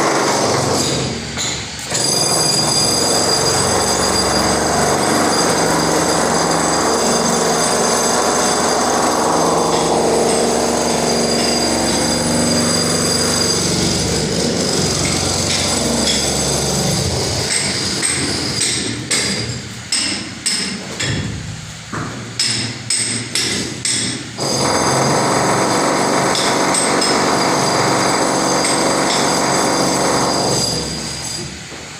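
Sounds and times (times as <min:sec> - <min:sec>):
loud machine noise: 0:00.0 - 0:20.7, 0:21.3 - 0:31.9.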